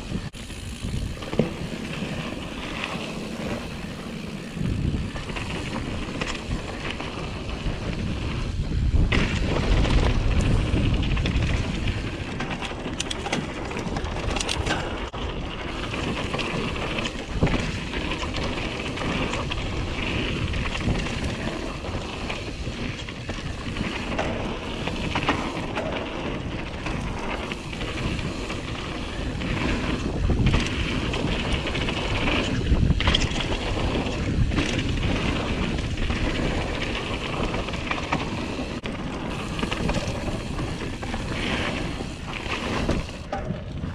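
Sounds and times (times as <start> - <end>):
bike knocks and rattles: 0.0 - 43.9
bike tyres rolling on dirt: 0.0 - 43.9
wind buffeting microphone: 0.0 - 43.9.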